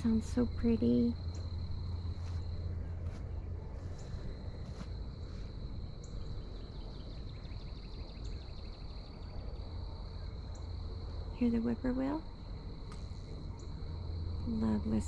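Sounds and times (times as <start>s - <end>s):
insects trilling: 0.0s - 15.0s
low steady rumble: 0.0s - 15.0s.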